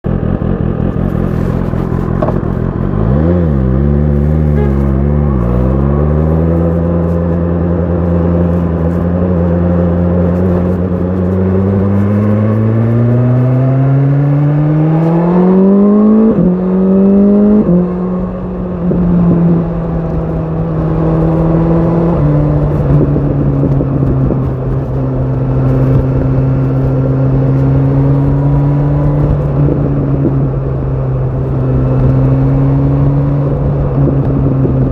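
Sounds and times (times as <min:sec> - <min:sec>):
sport bike engine accelerating: 0:00.1 - 0:34.9.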